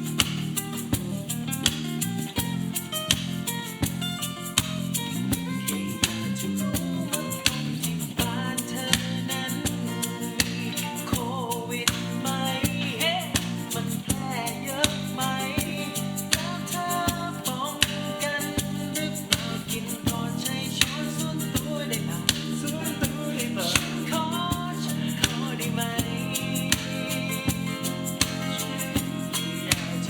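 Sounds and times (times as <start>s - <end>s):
pop band instrumental backing: 0.0s - 30.0s
person singing: 5.5s - 30.0s.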